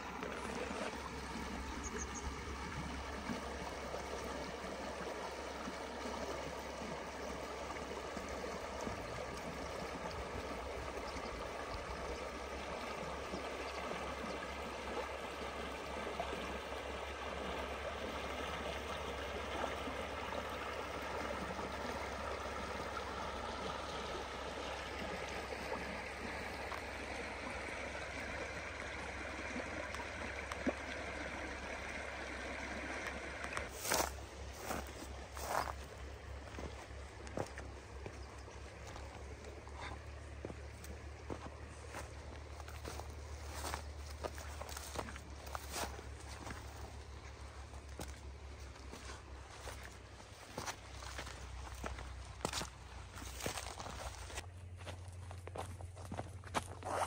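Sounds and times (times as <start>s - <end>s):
stream flowing over rocks: 0.0s - 54.5s.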